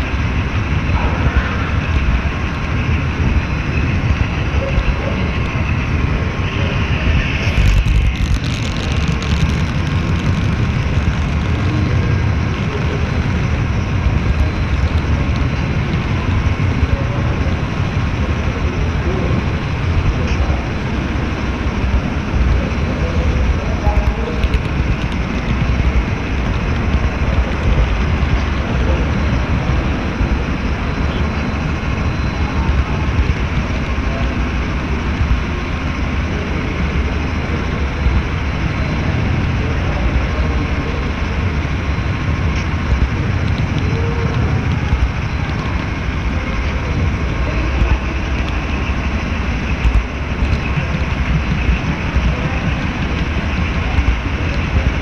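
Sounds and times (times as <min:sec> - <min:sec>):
faint whine: 0:00.0 - 0:55.0
model train wheels rattling: 0:01.7 - 0:55.0.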